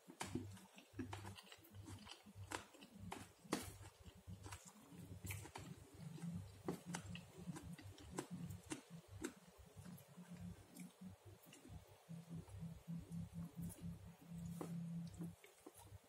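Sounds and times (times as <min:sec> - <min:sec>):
chewing with wet mouth clicks: 0:00.0 - 0:16.0.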